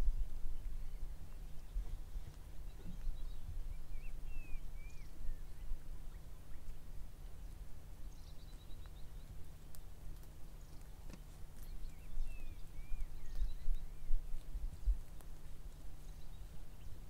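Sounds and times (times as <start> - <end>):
small birds calling: 0.0 - 17.0.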